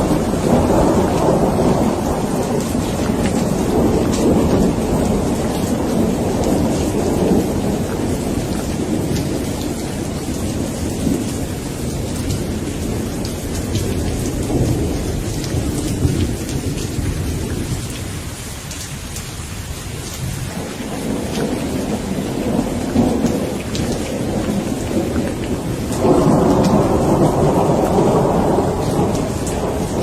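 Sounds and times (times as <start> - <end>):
rolling thunder rumble: 0.0 - 18.8, 20.0 - 30.0
steady rain: 0.0 - 30.0.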